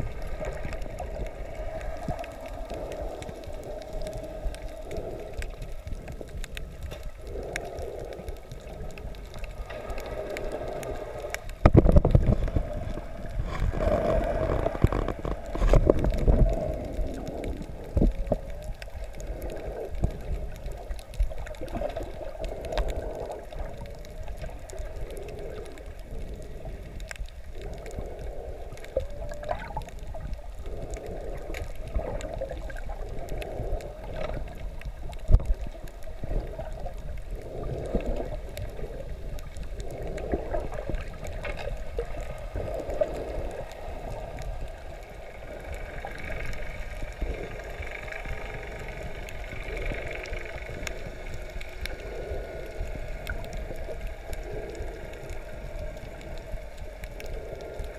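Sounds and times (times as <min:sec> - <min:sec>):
faint clicks: 0:00.0 - 0:57.9
muffled underwater water sloshing: 0:00.0 - 0:57.9.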